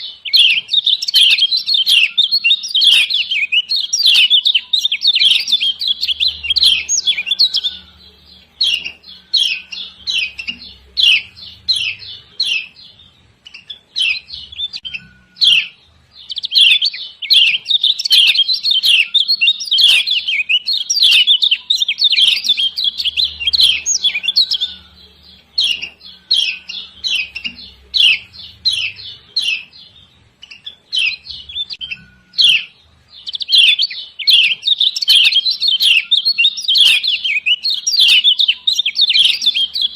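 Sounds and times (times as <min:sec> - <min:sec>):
bird giving sharp chirping calls: 0:00.0 - 0:39.9.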